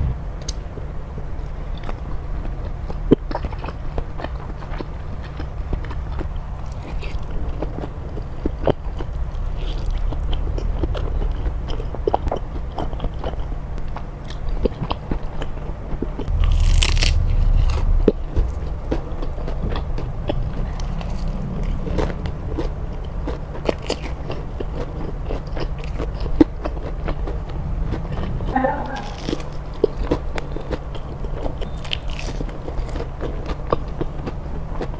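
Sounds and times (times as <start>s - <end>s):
wet chewing and biting: 1.7s - 34.9s.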